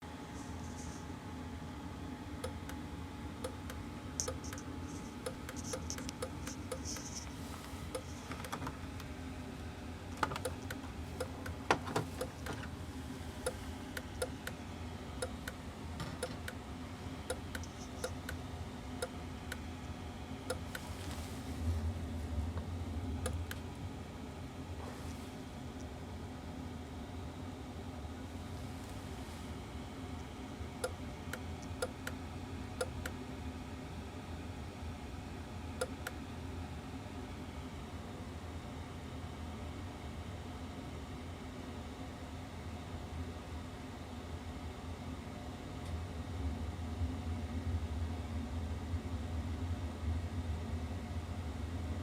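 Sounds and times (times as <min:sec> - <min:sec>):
low hum of running furnace: 0:00.0 - 0:52.0.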